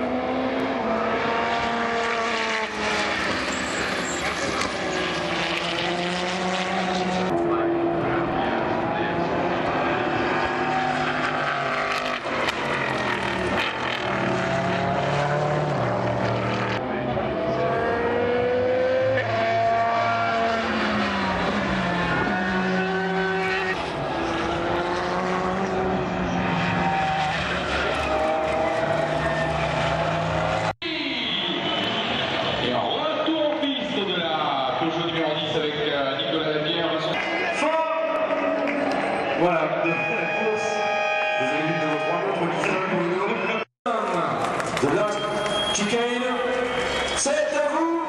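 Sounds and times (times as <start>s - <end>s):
race cars passing at speed: 0.0s - 48.0s.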